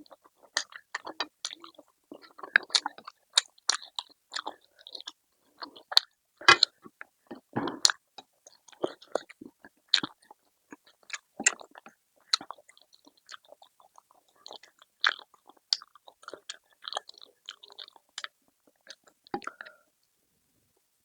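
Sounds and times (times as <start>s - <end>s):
chewing and biting food: 0.0s - 19.8s.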